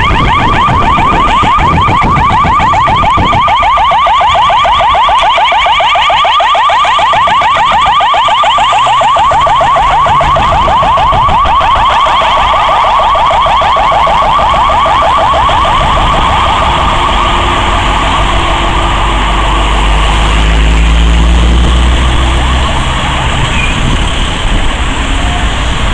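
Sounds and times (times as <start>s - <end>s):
ambulance siren yelping: 0.0s - 25.9s
heavy traffic rumble: 0.0s - 25.9s.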